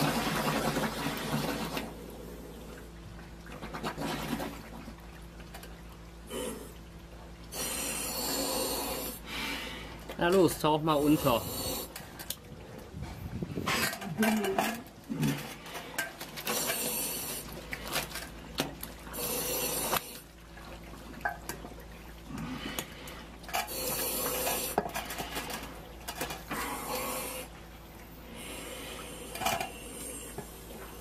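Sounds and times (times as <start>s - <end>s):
slurry sloshing and splashing: 0.0s - 8.5s, 9.1s - 31.0s
steady low hum: 0.0s - 31.0s.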